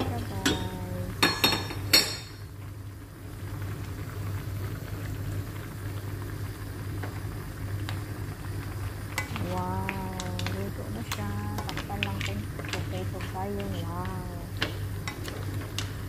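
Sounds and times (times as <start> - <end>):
broth bubbling in a pan: 0.0 - 16.0.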